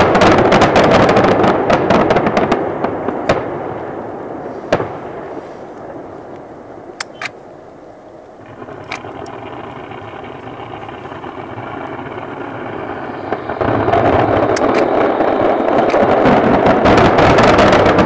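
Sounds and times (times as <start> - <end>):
crackling fireworks pops and bangs: 0.0 - 7.4, 8.4 - 18.0
fireworks rumble: 0.0 - 18.0.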